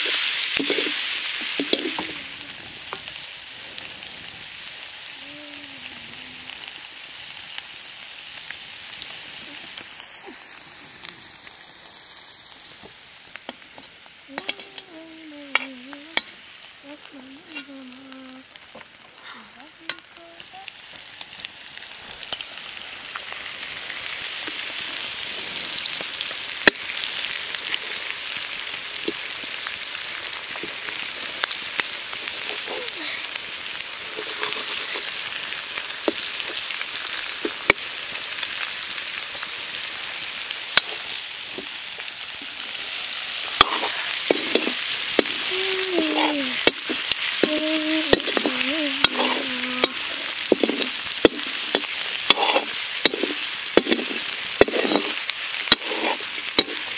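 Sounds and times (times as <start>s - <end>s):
curry sizzling in a pot: 0.0s - 56.9s.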